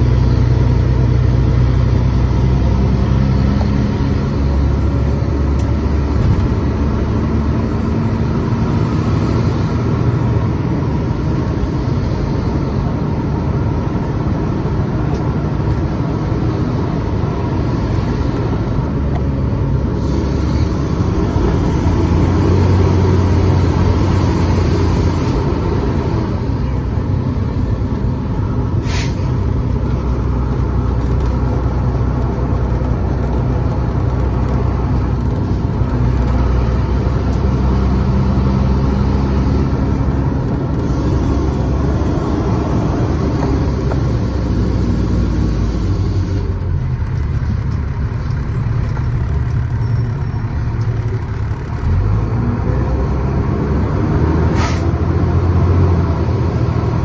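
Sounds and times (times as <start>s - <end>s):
road and wind noise: 0.0s - 57.0s
truck engine running: 0.0s - 57.0s.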